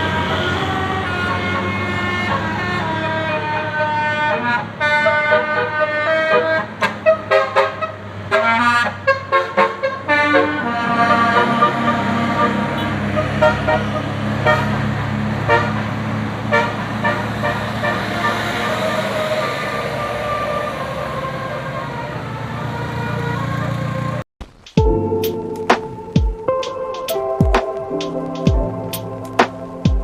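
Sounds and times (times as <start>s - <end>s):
bus engine hum: 0.0s - 24.2s, 24.9s - 30.0s
musical bus horn tooting: 0.0s - 24.2s.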